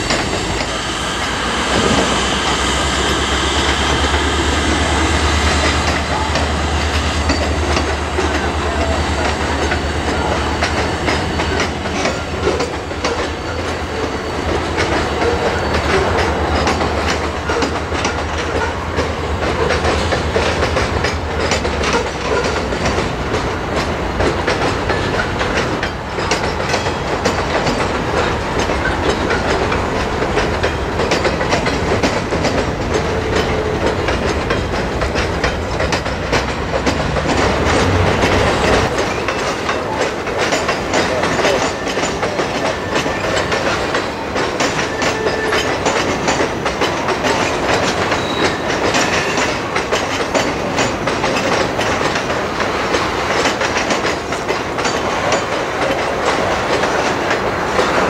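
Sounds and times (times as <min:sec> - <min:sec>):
low train rumble: 0:00.0 - 0:58.0
train wheels clicking over rail joints: 0:00.0 - 0:58.0.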